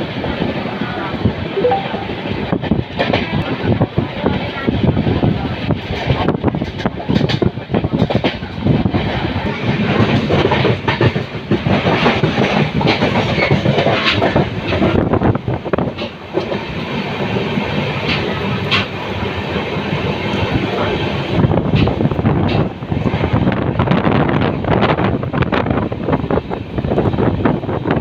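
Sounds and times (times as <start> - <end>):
train carriage rumble: 0.0 - 1.8, 2.4 - 28.0.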